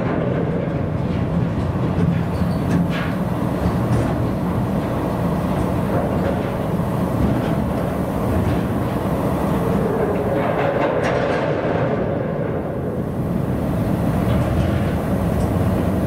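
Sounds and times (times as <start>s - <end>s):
ship diesel engine rumble: 0.0s - 16.0s.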